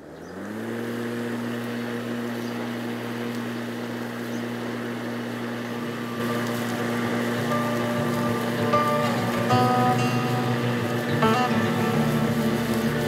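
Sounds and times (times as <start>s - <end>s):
electric lawnmower humming: 0.0s - 13.0s.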